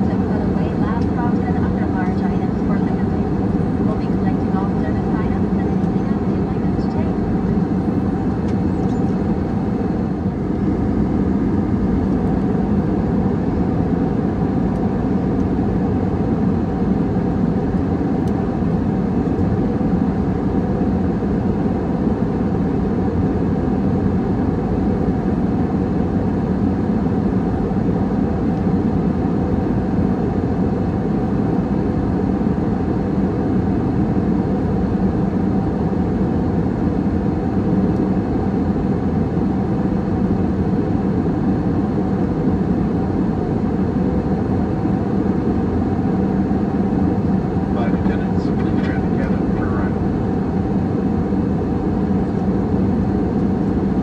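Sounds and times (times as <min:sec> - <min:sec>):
airliner cabin engine rush: 0:00.0 - 0:54.0
faint steady hum: 0:00.0 - 0:54.0.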